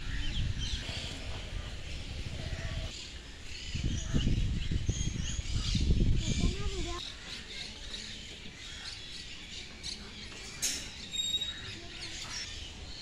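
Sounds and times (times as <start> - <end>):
birds chirping and calling: 0.0 - 13.0.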